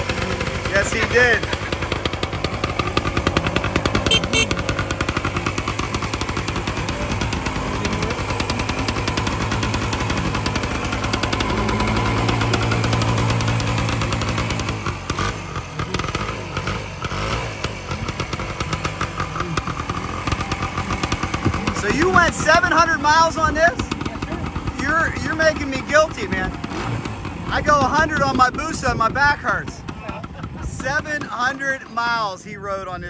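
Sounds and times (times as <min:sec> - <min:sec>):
two-stroke motorcycle engine revving: 0:00.0 - 0:33.0.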